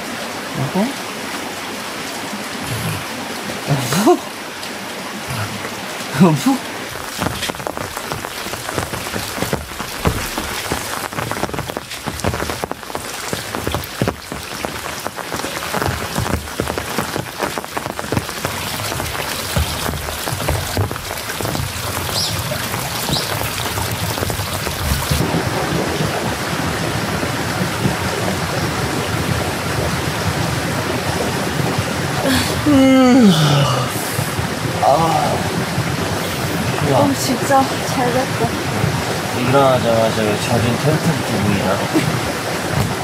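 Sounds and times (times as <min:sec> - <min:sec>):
rain on tent fabric: 0:00.0 - 0:43.0.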